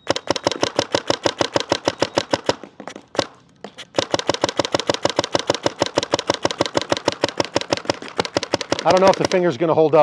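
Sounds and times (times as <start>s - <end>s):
paintball marker firing: 0.0s - 9.6s.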